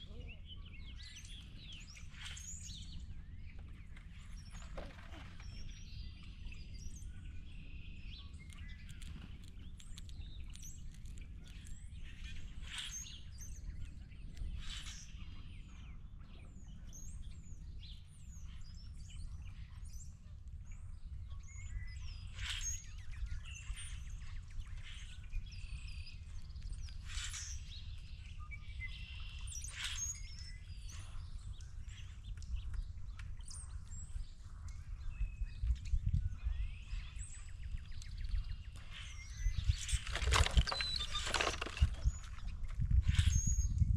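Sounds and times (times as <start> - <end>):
birds chirping and calling: 0.0 - 43.9.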